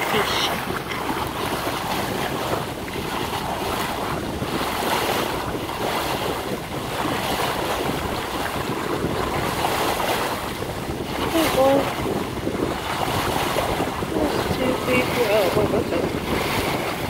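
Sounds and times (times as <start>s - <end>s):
water splashing along boat hull: 0.0s - 17.0s
wind buffeting microphone: 0.0s - 17.0s.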